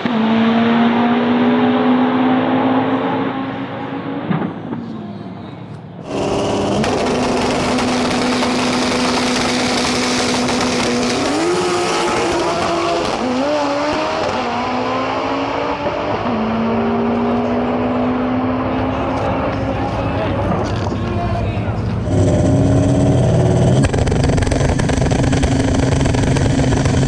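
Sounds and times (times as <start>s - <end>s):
race car engine at high revs: 0.0s - 4.8s, 6.0s - 27.0s.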